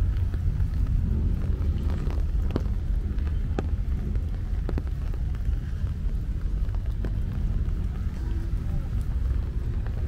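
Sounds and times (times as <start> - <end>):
rain: 0.0 - 10.0
raindrops ticking close by: 0.0 - 10.0.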